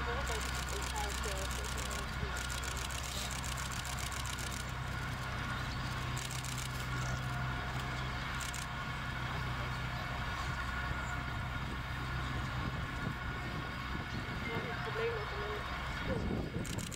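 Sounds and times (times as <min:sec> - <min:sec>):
distant traffic rumble: 0:00.0 - 0:16.9.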